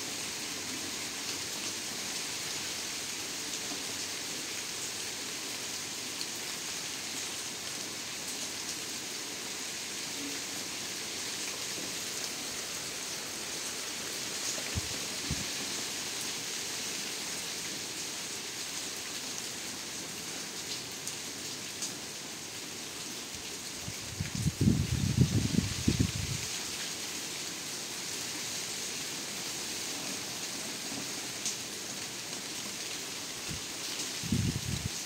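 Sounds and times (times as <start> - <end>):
rain falling on grass and leaves: 0.0 - 35.0.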